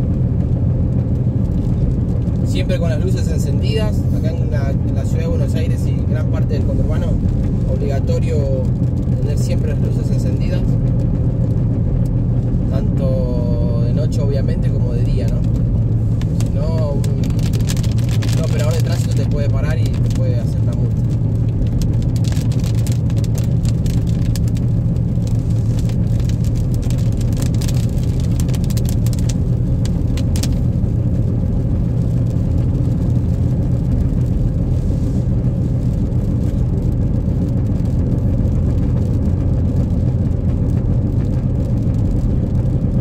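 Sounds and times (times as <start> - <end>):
car engine and tyres on wet road: 0.0 - 43.0.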